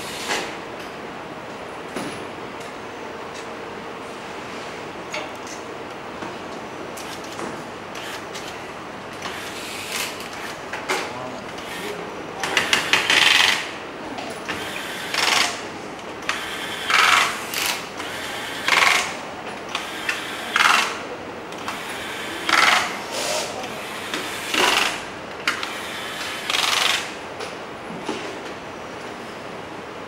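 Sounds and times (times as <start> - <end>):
workshop background noise: 0.0 - 30.0.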